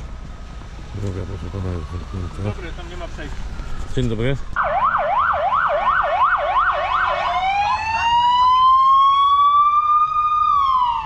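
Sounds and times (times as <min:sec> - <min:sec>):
emergency vehicle siren: 0:00.9 - 0:11.0.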